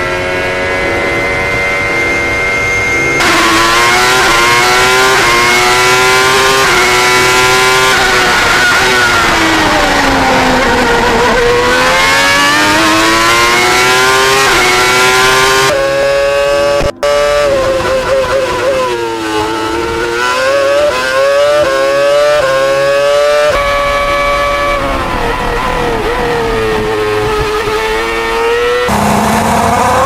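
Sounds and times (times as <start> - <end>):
race car engines at high revs: 0.0 - 30.0.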